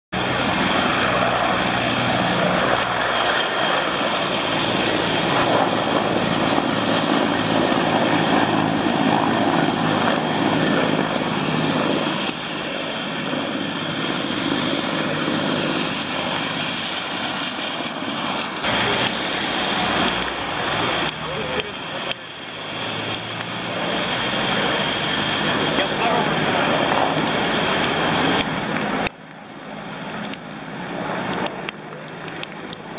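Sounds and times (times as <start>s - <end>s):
helicopters flying over: 0.1s - 32.9s.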